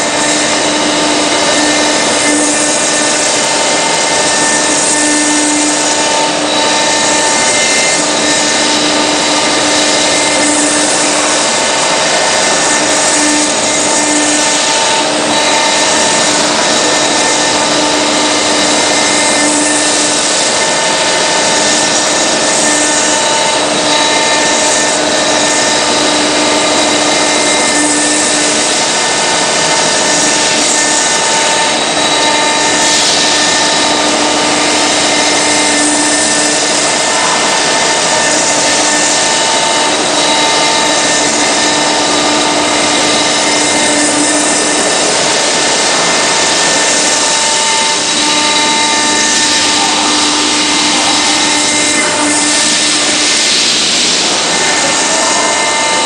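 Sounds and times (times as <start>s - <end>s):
high spindle whine: 0.0s - 56.0s
router cutter grinding stone: 0.0s - 56.0s.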